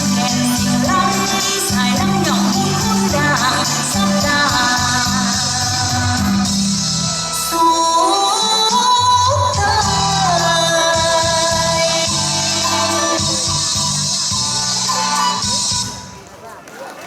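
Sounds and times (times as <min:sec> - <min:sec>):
instrumental backing with bass: 0:00.0 - 0:16.2.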